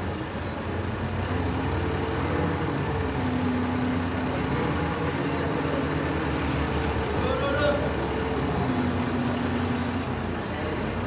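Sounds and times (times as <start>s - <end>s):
diesel engine running: 0.1s - 11.0s.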